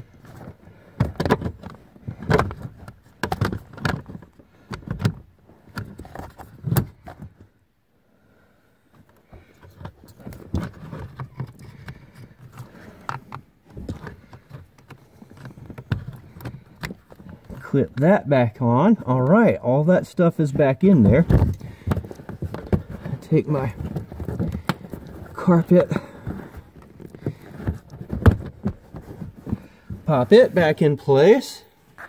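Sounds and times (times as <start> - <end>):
plastic parts rustling and clicking: 0.0 - 7.5, 8.9 - 18.0, 20.4 - 30.8.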